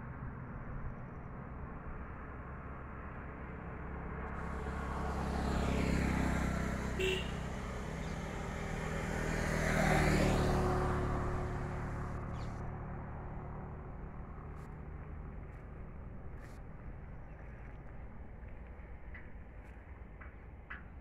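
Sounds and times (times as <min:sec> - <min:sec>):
low traffic hum: 0:00.0 - 0:21.0
road vehicles passing by: 0:00.0 - 0:21.0.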